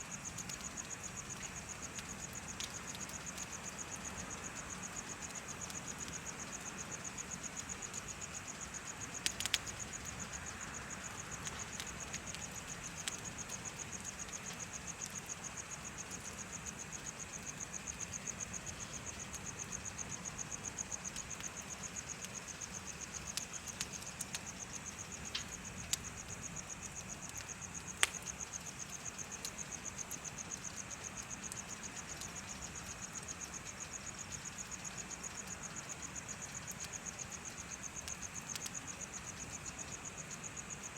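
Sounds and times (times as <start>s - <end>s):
bonfire crackling and popping: 0.0s - 40.9s
crickets chirping: 0.0s - 40.9s.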